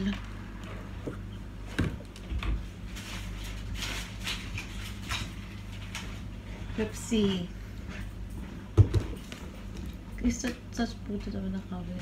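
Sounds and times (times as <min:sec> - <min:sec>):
rustling and handling noises: 0:00.0 - 0:10.5.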